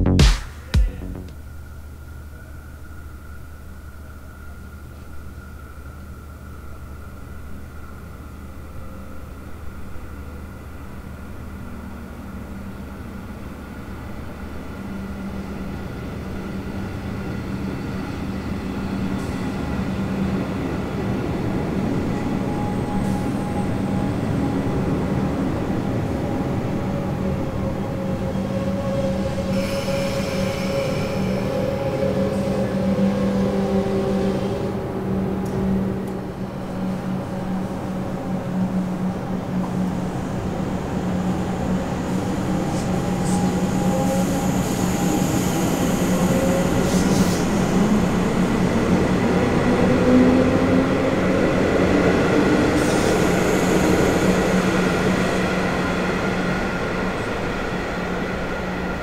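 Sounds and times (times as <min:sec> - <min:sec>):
electric train rumble: 0:00.0 - 0:59.0
train wheel and motor noise: 0:01.7 - 0:59.0.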